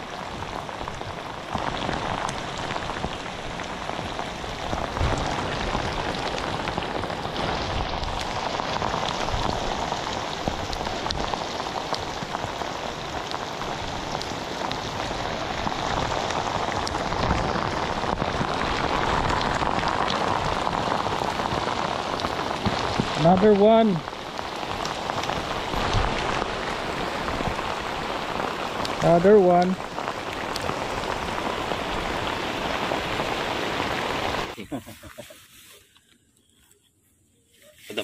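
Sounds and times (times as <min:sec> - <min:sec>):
heavy rain on water: 0:00.0 - 0:35.4.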